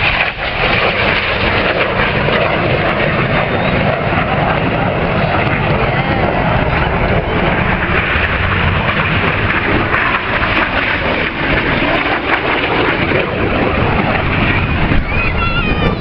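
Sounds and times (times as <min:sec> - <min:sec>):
jet engines roaring: 0:00.0 - 0:16.0
low rumble: 0:00.0 - 0:16.0.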